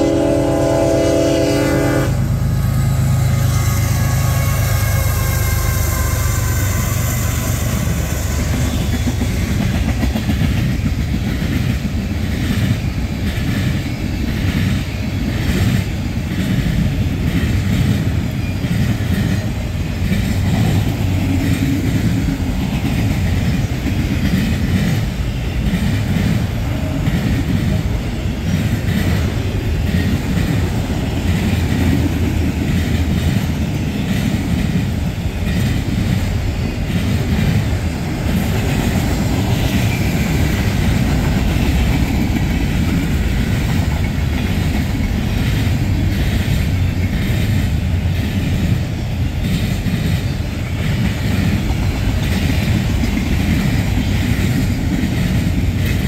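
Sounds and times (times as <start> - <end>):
train rumbling past: 0.0 - 56.0
wheels clacking over rail joints: 7.4 - 56.0.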